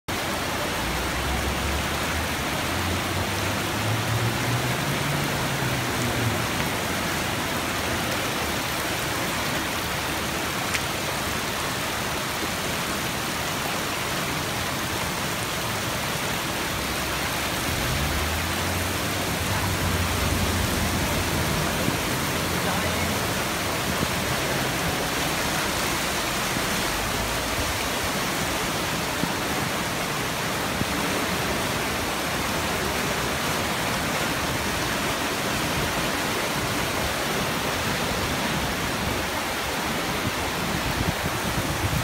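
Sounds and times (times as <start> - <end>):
floodwater rushing down street: 0.1 - 42.0.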